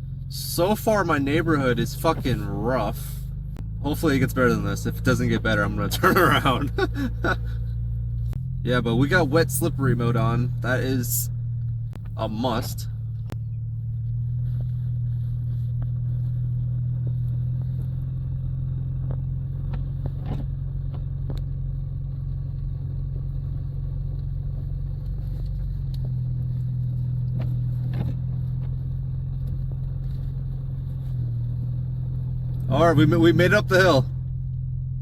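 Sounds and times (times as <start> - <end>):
car engine pulling under load: 0.0 - 35.0.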